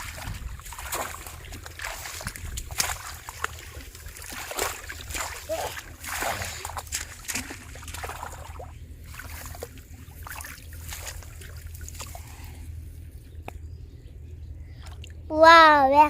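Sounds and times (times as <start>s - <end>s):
shallow water sloshing and splashing: 0.0s - 13.3s, 14.7s - 15.3s
steady low hum: 0.0s - 16.0s.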